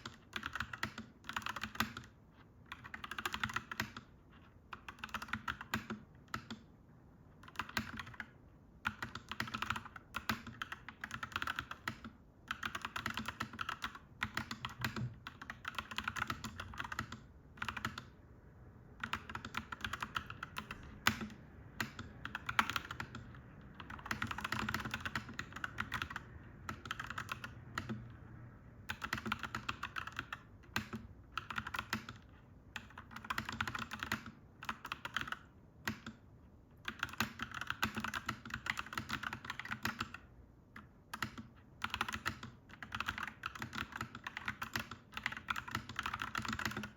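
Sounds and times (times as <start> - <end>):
mechanical keyboard typing: 0.0 - 6.7, 7.3 - 18.2, 19.0 - 28.2, 28.8 - 46.9.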